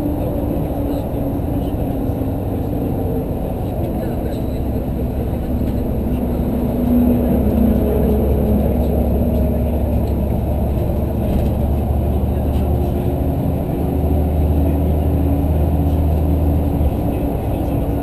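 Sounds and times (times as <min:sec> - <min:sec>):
bus engine and road drone: 0:00.0 - 0:18.0
faint engine hum: 0:00.0 - 0:18.0.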